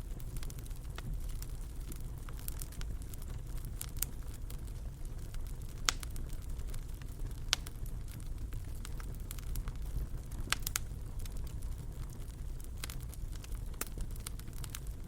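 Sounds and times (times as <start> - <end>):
low rumble of flames: 0.0 - 15.0
wood fire crackles and pops: 0.0 - 15.0.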